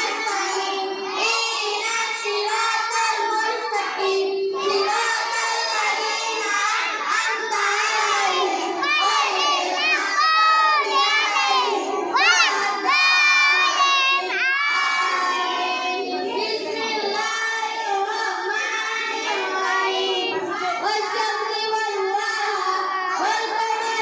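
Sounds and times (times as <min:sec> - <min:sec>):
children chanting together: 0:00.0 - 0:24.0.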